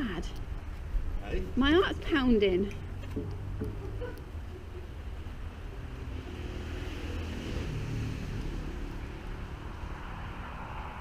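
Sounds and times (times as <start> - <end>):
passing motor vehicle rumble: 0.0 - 11.0.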